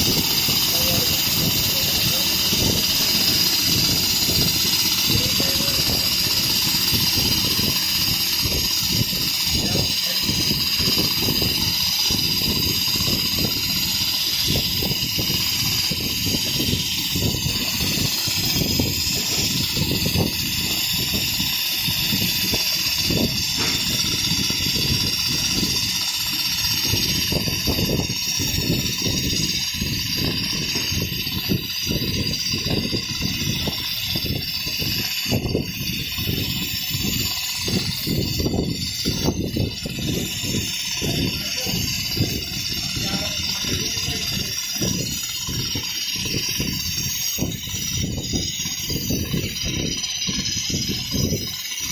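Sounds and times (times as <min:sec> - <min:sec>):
sewing machine running: 0:00.0 - 0:51.9.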